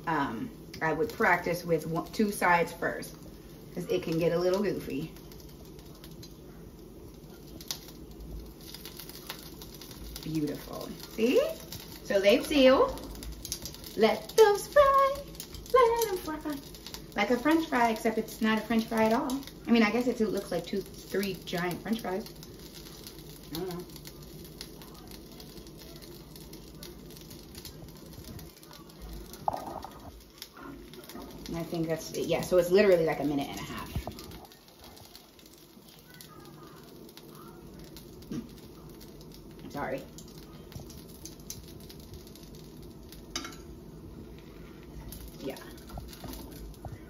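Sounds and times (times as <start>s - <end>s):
food sizzling in a skillet: 0.0s - 47.0s.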